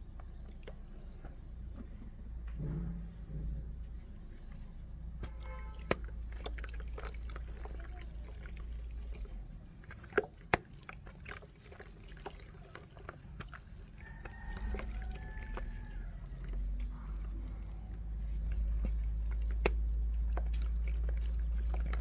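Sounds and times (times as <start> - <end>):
dry clay crunching and crackling: 0.0 - 22.0.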